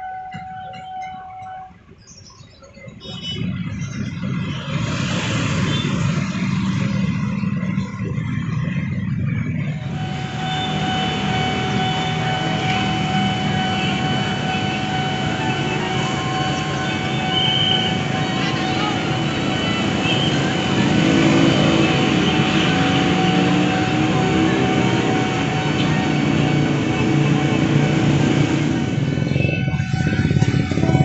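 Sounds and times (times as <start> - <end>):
scooter and car engines revving: 3.2 - 31.0.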